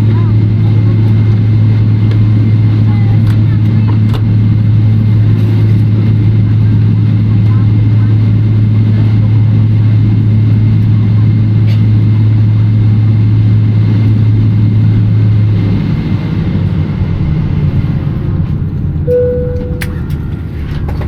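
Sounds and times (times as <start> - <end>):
aircraft cabin hum: 0.0 - 21.0
low rumble: 0.0 - 21.0.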